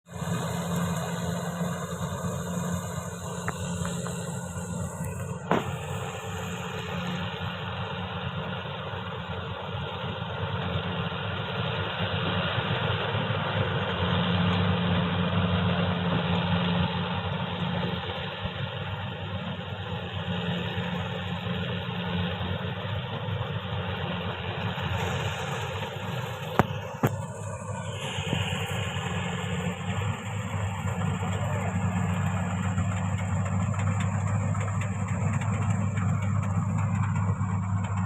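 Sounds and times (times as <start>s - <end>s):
combine harvester engine running: 0.0s - 38.0s.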